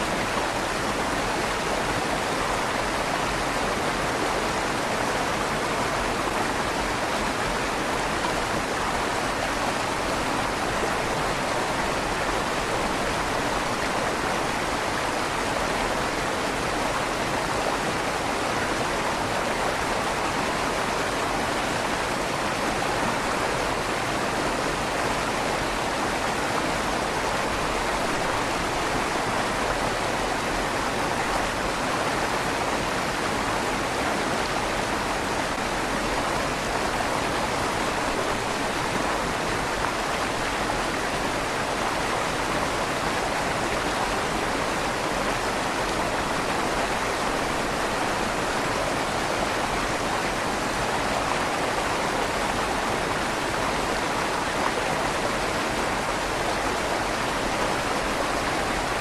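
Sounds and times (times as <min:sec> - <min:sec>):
river water flowing under bridge: 0:00.0 - 0:59.0.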